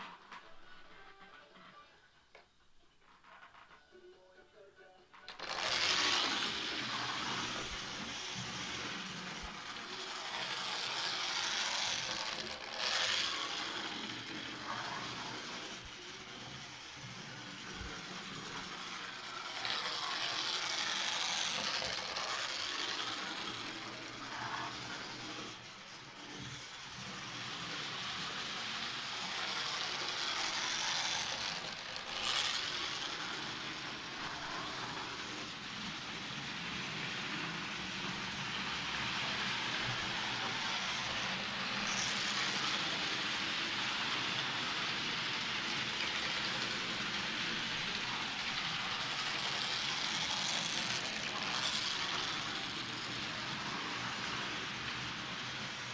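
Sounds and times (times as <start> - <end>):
model train running on track: 5.2 - 55.9.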